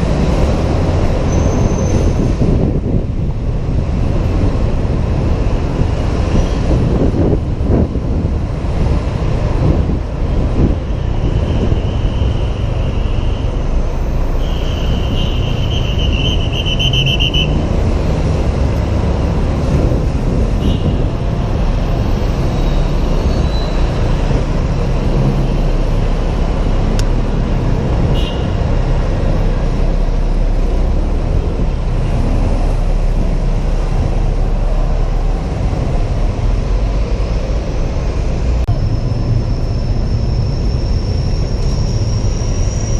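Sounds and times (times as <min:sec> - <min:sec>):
scooter engine and wind rumble: 0:00.0 - 0:42.9.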